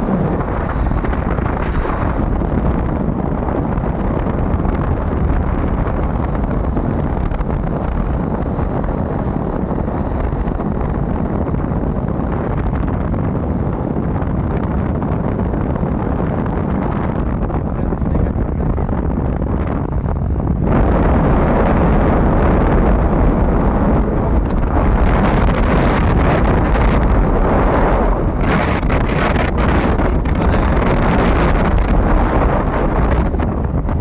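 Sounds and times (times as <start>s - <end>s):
low rumble of bike ride: 0.0s - 34.0s
wind buffeting microphone: 0.0s - 34.0s.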